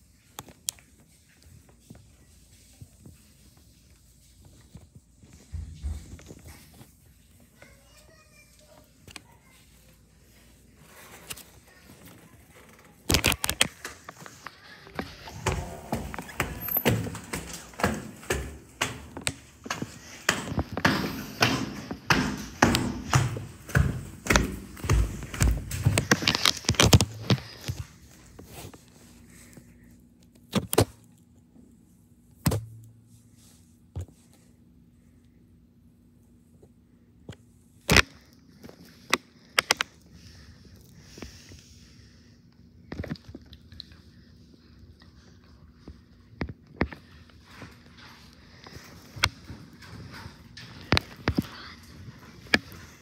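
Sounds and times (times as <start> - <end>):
faint room noise: 0.0 - 53.0.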